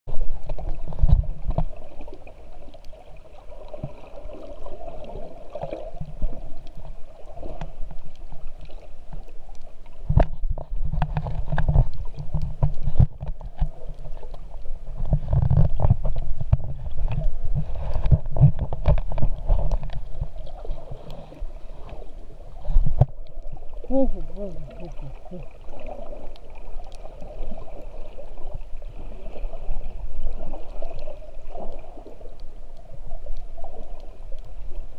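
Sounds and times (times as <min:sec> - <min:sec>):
muffled underwater sloshing: 0:00.1 - 0:34.9.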